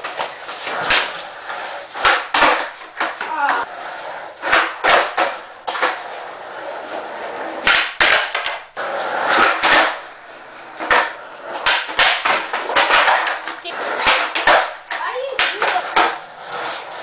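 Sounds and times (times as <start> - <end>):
skateboard wheels rolling: 0.0 - 17.0
skateboards cracking on concrete: 0.0 - 17.0.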